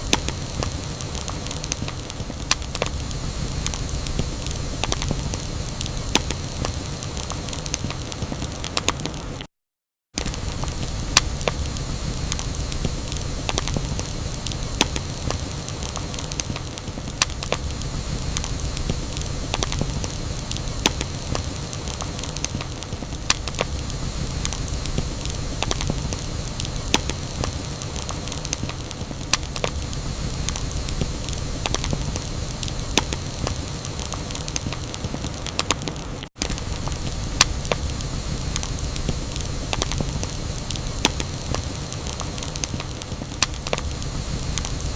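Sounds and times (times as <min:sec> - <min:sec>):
campfire crackling and popping: 0:00.0 - 0:09.5, 0:10.2 - 0:44.9
low rumble of burning: 0:00.0 - 0:09.5, 0:10.2 - 0:44.9.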